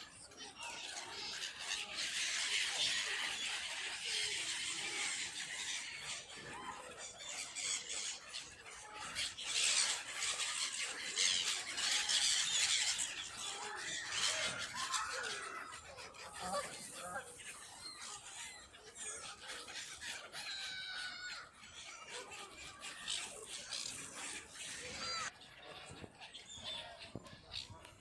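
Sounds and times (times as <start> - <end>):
crowd of birds calling: 0.0 - 28.0.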